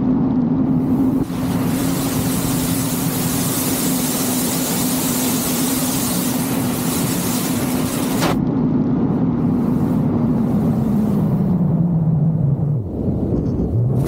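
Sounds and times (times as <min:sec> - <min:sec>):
steady low hum: 0:00.0 - 0:14.0
rush of air: 0:00.3 - 0:14.0.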